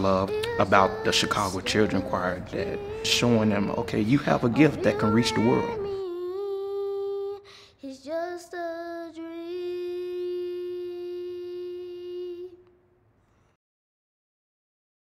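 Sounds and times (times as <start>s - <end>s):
child singing: 0.0s - 12.7s.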